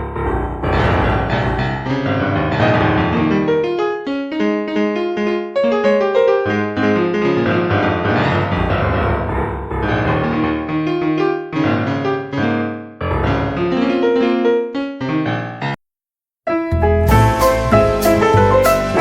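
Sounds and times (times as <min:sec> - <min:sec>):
piano melody over bass notes: 0:00.0 - 0:15.8, 0:16.5 - 0:19.0.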